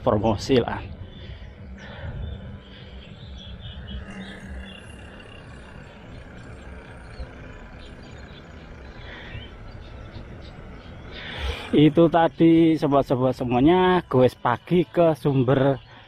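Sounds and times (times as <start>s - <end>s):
faint high chirping: 0.0s - 16.0s.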